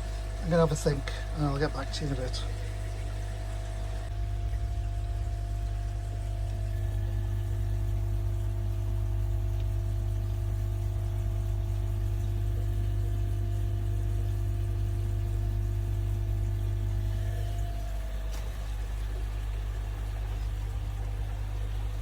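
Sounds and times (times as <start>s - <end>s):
pond pump humming: 0.0s - 22.0s
steady tones: 0.0s - 22.0s
water noise: 0.0s - 22.0s.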